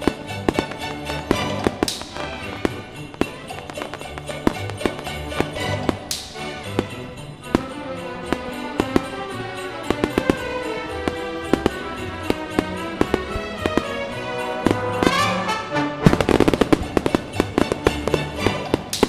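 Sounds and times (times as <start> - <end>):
fireworks bangs: 0.0 - 19.0
music soundtrack: 0.0 - 19.0.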